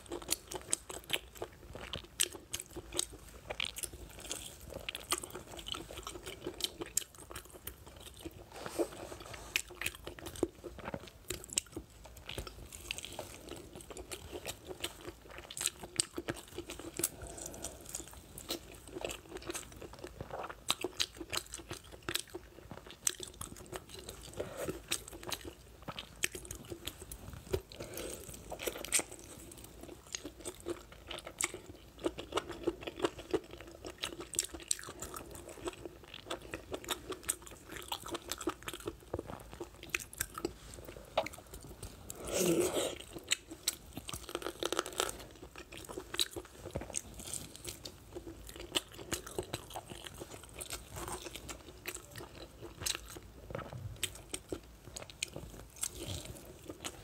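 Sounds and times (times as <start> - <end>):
chewing and biting bone: 0.0 - 57.0.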